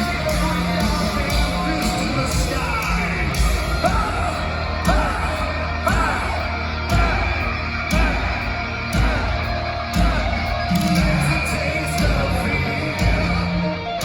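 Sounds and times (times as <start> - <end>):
heavy metal band playing live: 0.0 - 14.0
person singing: 0.0 - 14.0.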